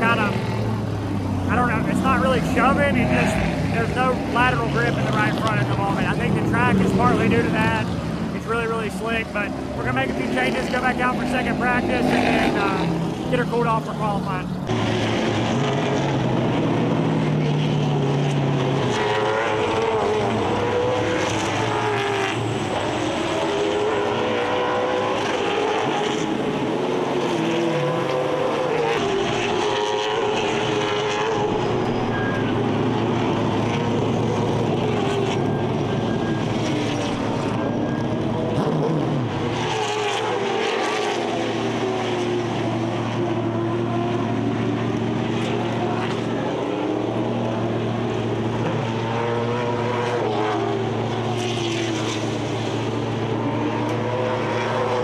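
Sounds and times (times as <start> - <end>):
low engine drone: 0.0 - 55.0
race car engines revving: 0.0 - 55.0.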